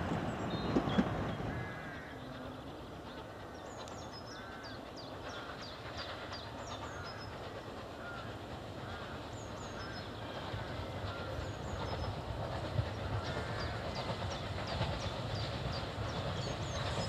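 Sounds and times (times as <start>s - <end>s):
steam locomotive rumbling: 0.0s - 17.0s
birds chirping: 0.3s - 17.0s
lower arched bird calls: 0.4s - 17.0s.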